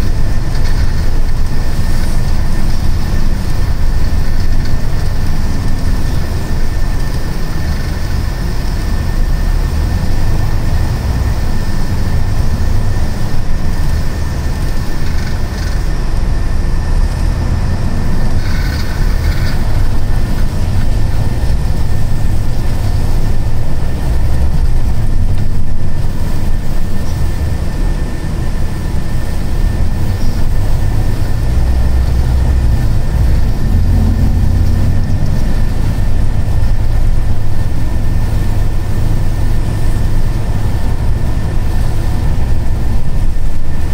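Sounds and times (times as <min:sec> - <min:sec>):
diesel engine: 0:00.0 - 0:43.9
road rumble: 0:00.0 - 0:43.9
thin steady whine: 0:00.0 - 0:43.9.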